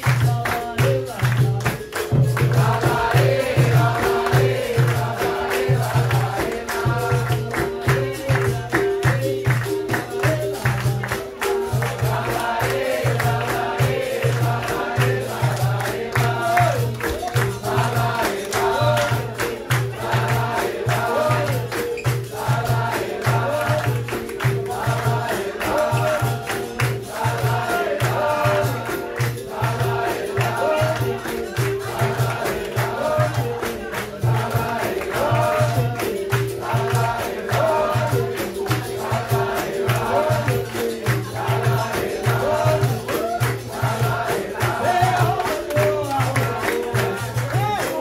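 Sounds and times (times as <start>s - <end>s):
berimbau and drum beat: 0.0s - 48.0s
group call-and-response singing: 0.0s - 48.0s.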